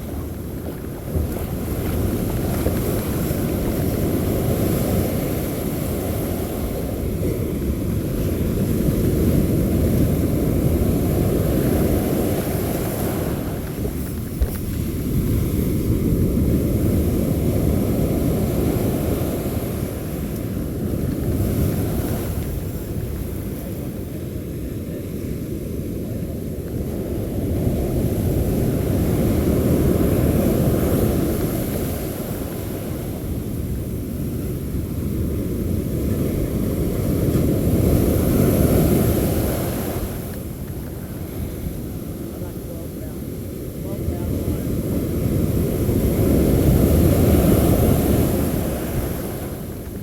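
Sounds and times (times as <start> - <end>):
surf breaking on a beach: 0.0 - 50.0
wind on microphone: 0.0 - 50.0.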